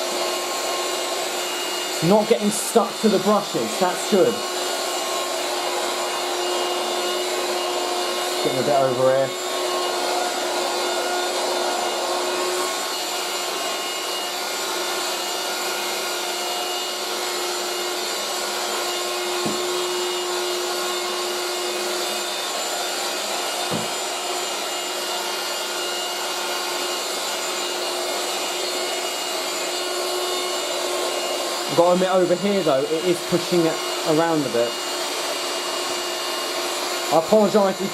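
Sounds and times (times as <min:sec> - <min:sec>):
handheld vacuum cleaner running: 0:00.0 - 0:37.9.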